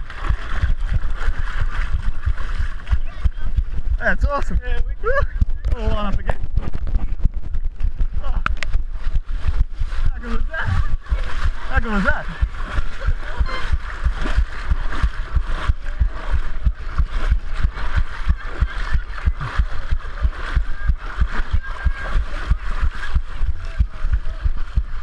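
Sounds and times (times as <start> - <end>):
pounding heartbeat: 0.0 - 25.0
wading through muddy water: 0.0 - 25.0.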